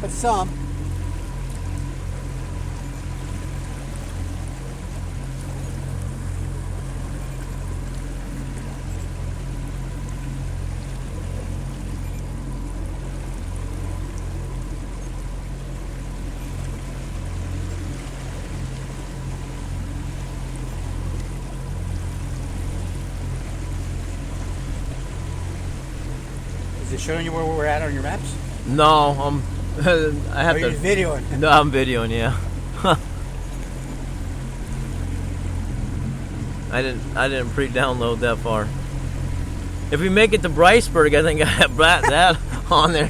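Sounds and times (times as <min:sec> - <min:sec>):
small boat motor running: 0:00.0 - 0:43.0
water splashing along hull: 0:00.0 - 0:43.0.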